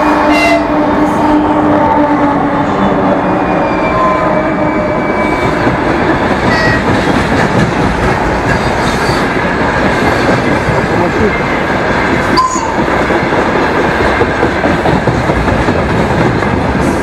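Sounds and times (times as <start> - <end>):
freight train rumble and rattle: 0.0 - 17.0.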